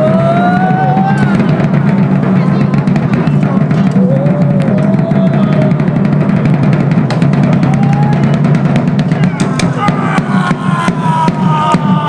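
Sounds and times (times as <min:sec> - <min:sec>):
drums rolling beat: 0:00.0 - 0:12.0.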